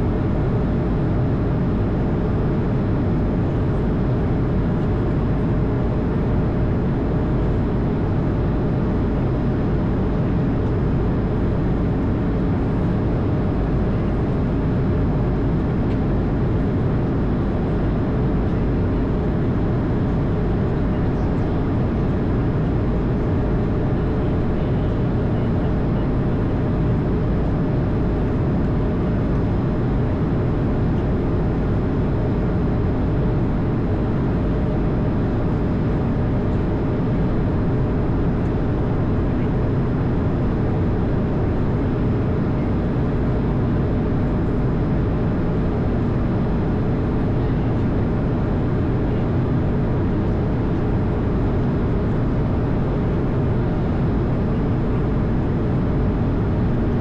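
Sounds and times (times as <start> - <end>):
aircraft cockpit noise: 0.0 - 57.0.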